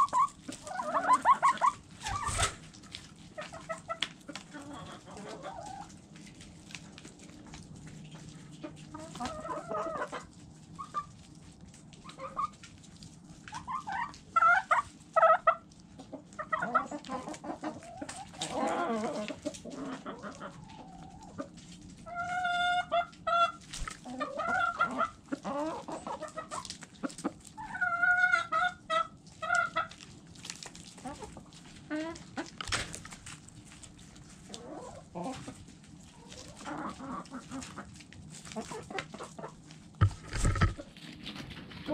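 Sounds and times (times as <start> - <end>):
hens and roosters clucking: 0.0 - 41.9.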